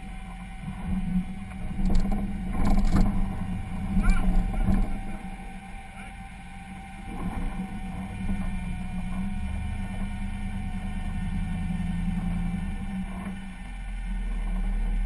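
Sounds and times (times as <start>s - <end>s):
vehicle engine crawling: 0.0s - 15.0s.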